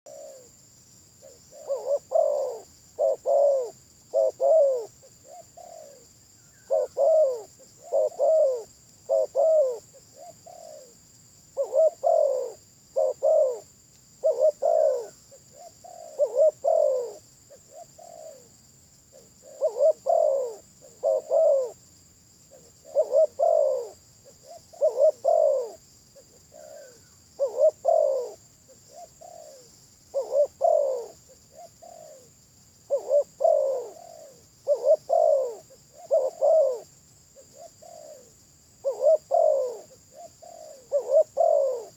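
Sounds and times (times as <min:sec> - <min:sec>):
dove cooing: 0:00.1 - 0:00.6, 0:01.2 - 0:21.8, 0:22.5 - 0:41.9.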